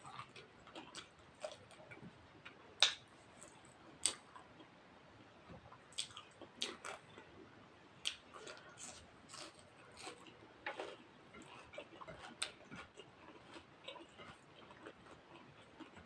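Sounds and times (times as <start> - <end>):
person chewing food: 0.0 - 4.8, 5.6 - 7.4, 8.0 - 16.0.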